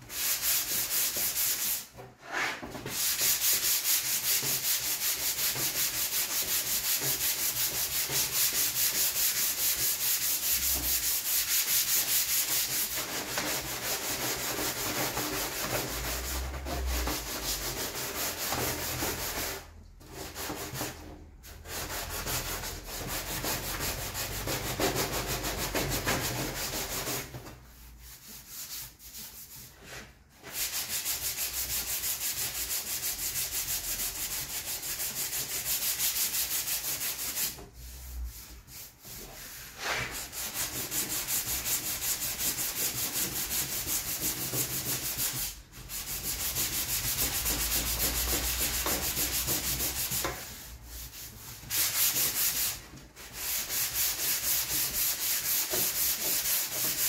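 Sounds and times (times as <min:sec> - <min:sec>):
sandpaper rasping on plastic: 0:00.0 - 0:57.0.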